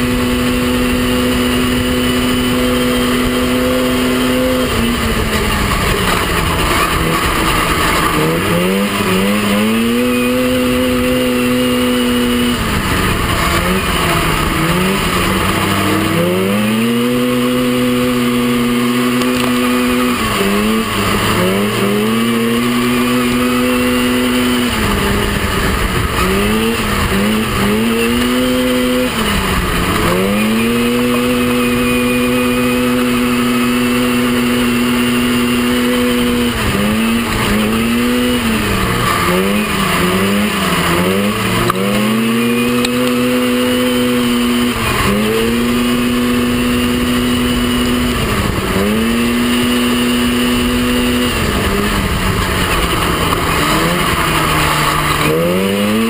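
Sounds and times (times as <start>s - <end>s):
buggy engine at full throttle: 0.0s - 56.0s.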